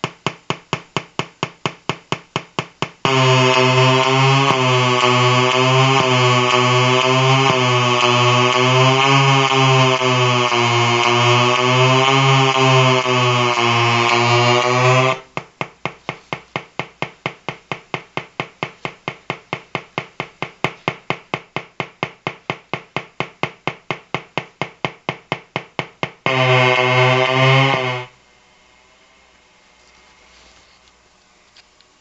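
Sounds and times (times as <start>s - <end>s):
rapid electronic ticking: 0.0s - 28.2s
pulsing electronic buzz: 1.6s - 28.2s.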